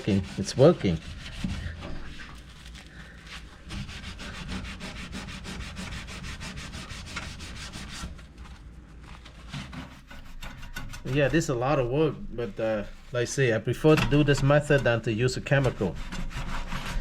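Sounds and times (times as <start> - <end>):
sponge scrubbing: 0.0 - 13.6, 14.4 - 17.0.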